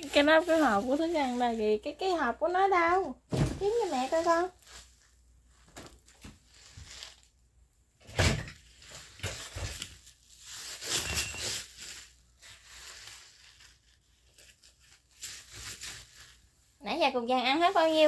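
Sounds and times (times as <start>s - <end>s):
rustling on a mat: 0.0s - 1.9s, 3.3s - 7.4s, 8.7s - 18.0s.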